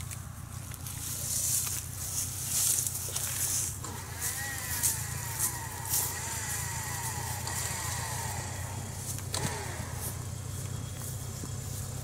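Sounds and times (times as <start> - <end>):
distant car engine running: 0.0 - 12.0.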